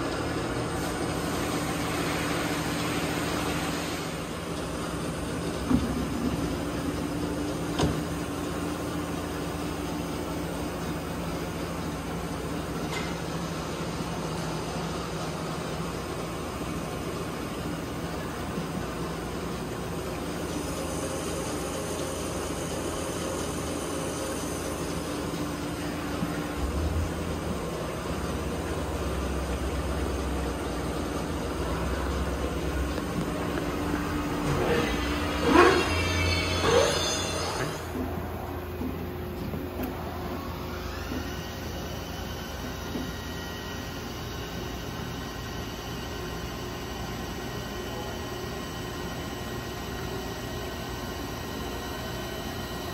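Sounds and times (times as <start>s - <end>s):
machinery humming: 0.0s - 52.9s.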